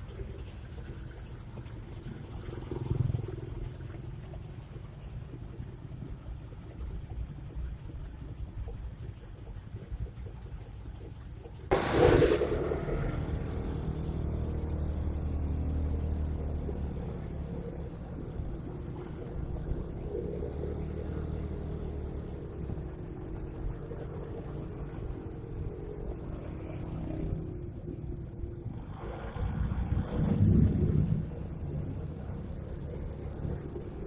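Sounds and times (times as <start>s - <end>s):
diesel engine exhaust rumble: 0.0s - 34.0s.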